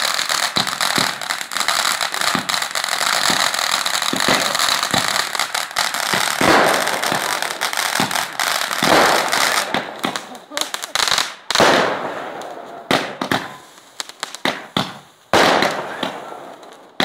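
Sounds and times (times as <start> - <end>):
firework pops and bangs: 0.0 - 17.0
hiss of rising firework trails: 0.0 - 17.0.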